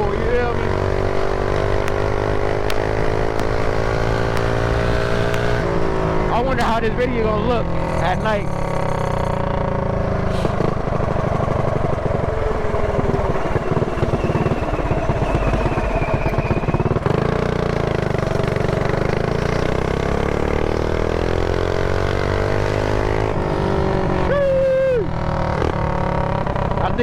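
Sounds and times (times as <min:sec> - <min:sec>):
small motorbike engine running: 0:00.0 - 0:27.0.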